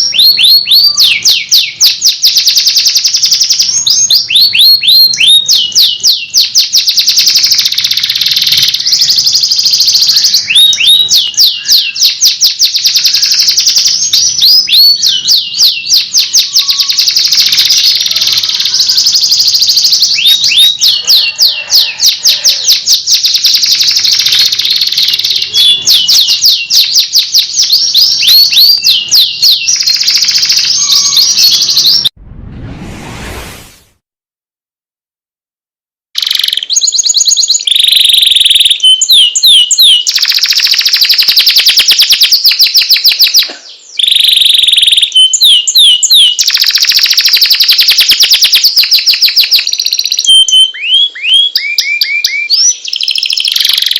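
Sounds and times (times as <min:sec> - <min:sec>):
canary singing: 0:00.0 - 0:32.1, 0:36.2 - 0:53.9.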